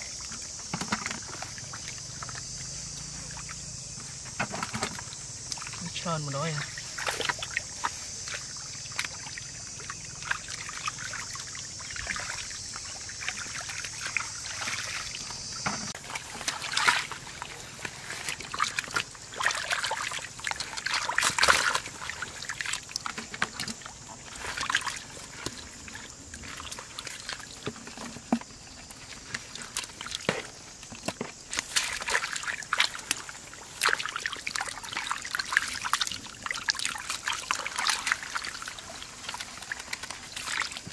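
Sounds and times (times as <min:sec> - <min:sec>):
muddy water sloshing and splashing: 0:00.0 - 0:40.9.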